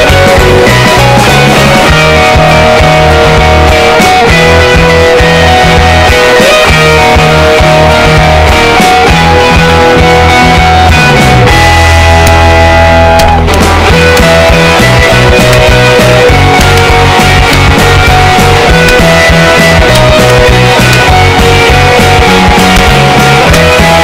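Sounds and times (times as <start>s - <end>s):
loud rock music: 0.0s - 24.0s
pulsing bass line: 0.0s - 24.0s.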